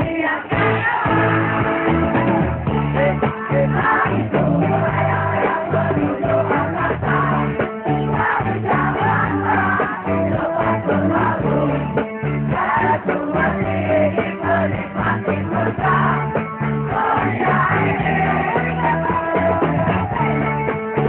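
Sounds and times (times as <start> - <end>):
live rock band playing: 0.0 - 21.0
person singing: 2.7 - 20.6.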